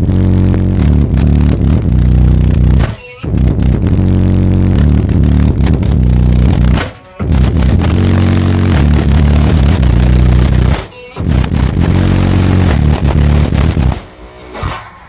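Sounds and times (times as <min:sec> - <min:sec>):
distorted deep bass music: 0:00.0 - 0:14.7.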